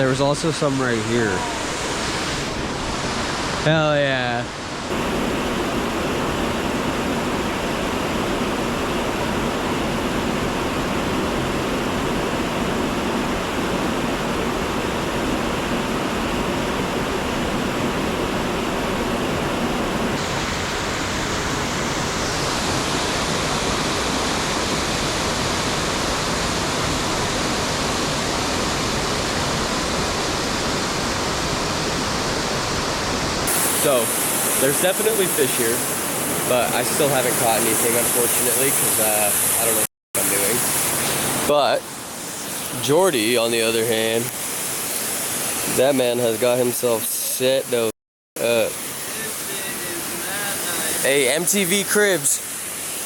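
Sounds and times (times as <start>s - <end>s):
river water rushing at waterfall: 0.5s - 53.0s.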